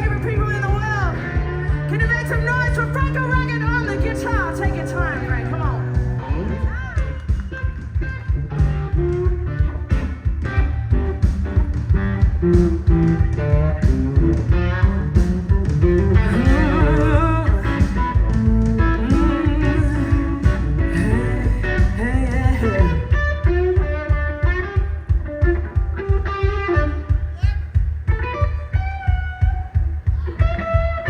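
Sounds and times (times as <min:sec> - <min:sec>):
bass: 0:00.0 - 0:31.0
drums: 0:00.0 - 0:31.0
electric guitar lead: 0:00.0 - 0:31.0.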